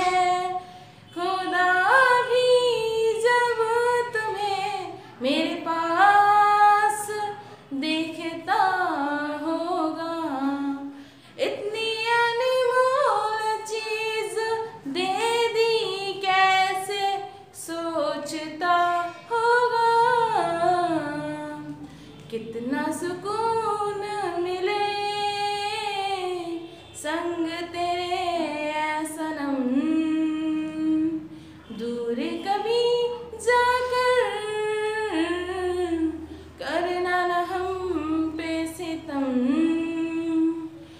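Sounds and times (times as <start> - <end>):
woman singing unaccompanied: 0.0 - 40.9.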